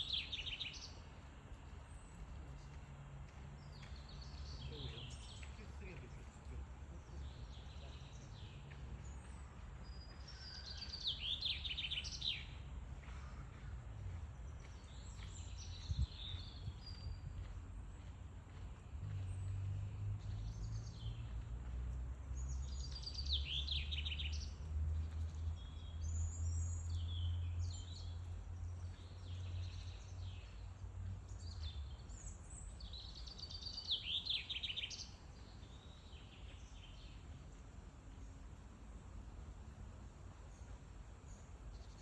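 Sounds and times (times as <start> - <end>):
songbirds singing: 0.0 - 42.0.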